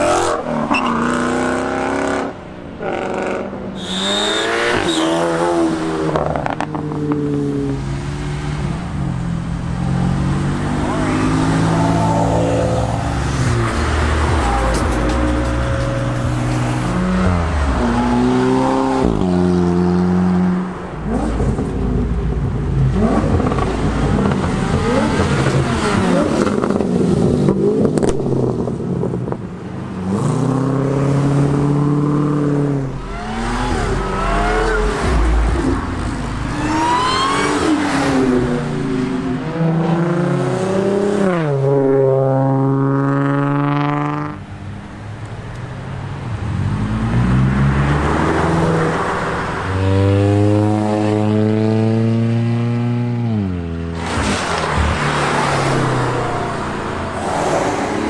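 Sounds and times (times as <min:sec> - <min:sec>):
car engines accelerating hard: 0:00.0 - 0:58.0.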